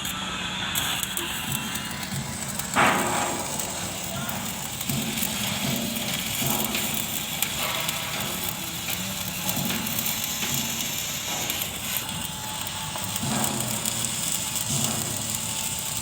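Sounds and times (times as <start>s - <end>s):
arc welding crackling and hissing: 0.0s - 16.0s.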